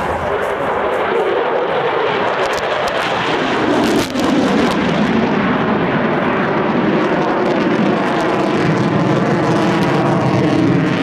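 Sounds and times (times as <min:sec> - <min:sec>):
fighter jet rushing overhead: 0:00.0 - 0:11.0.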